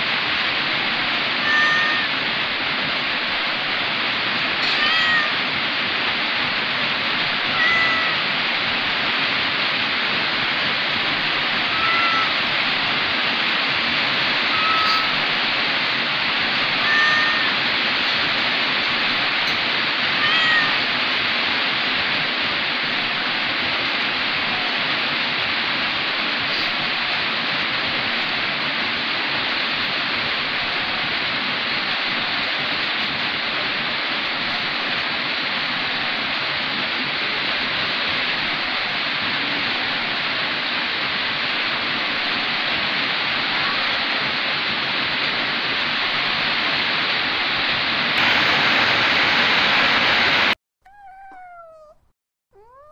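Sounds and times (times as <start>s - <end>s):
steady hiss: 0.0s - 50.6s.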